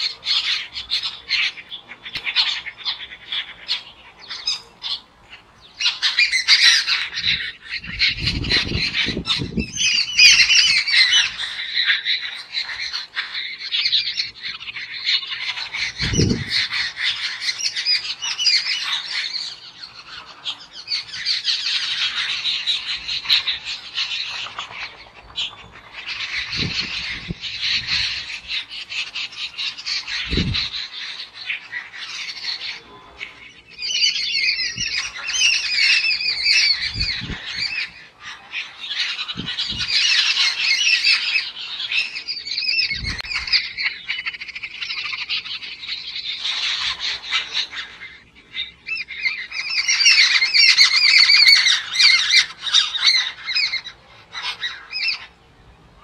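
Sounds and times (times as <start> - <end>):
flock of birds chattering: 0.0 - 56.0.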